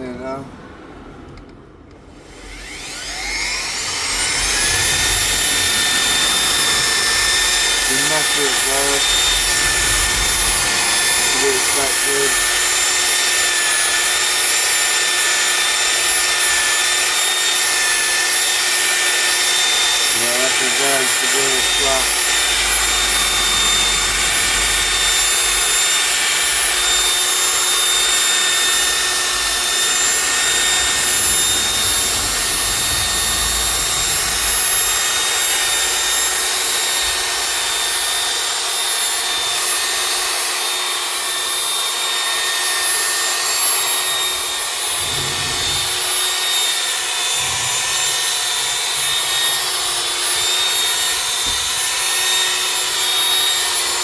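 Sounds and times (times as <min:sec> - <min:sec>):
electric polisher whining: 0:02.2 - 0:54.0.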